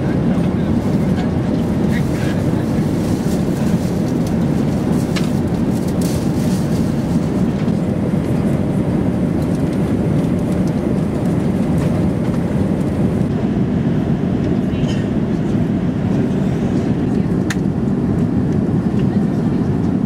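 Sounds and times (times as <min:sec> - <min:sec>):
airplane cabin noise: 0:00.0 - 0:20.0.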